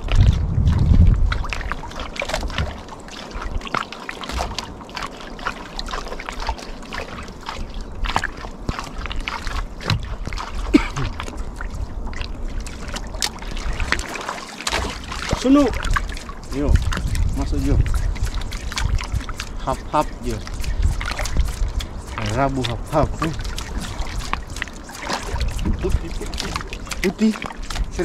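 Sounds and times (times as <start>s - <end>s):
water splashing against boat hull: 0.0s - 28.0s.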